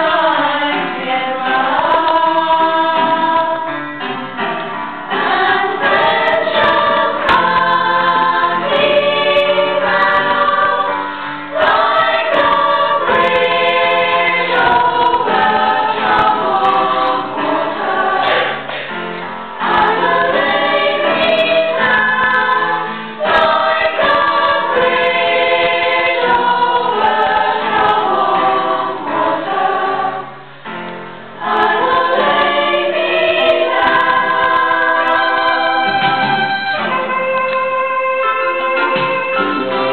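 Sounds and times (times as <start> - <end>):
choir singing in parts: 0.0 - 39.9.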